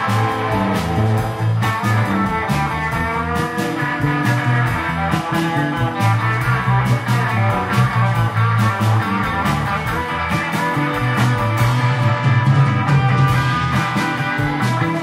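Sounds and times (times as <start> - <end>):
bass guitar: 0.0 - 15.0
drum kit beat: 0.0 - 15.0
electric guitars: 0.0 - 15.0.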